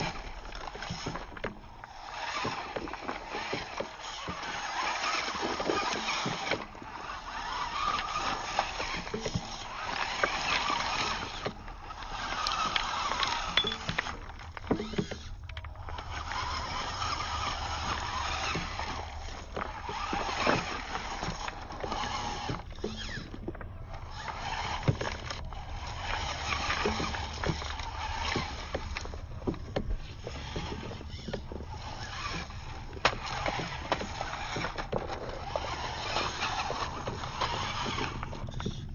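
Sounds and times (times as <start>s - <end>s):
rc car motor whirring: 0.0s - 38.9s
stones clicking under tyres: 0.0s - 38.9s.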